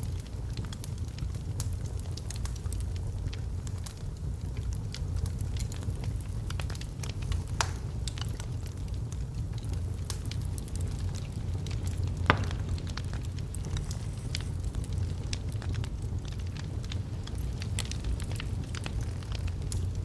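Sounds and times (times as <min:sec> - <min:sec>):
fire crackling in fireplace: 0:00.0 - 0:20.0
loud fire pops: 0:00.0 - 0:20.0.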